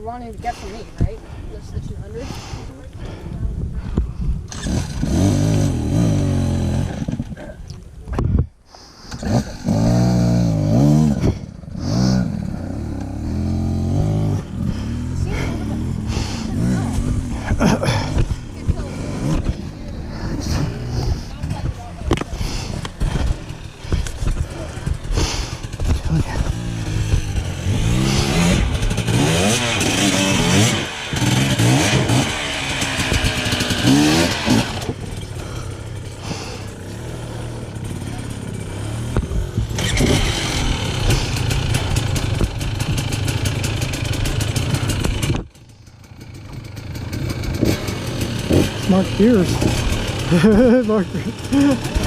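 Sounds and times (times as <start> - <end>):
motorcycle engine revving: 4.5 - 7.6, 9.1 - 52.0.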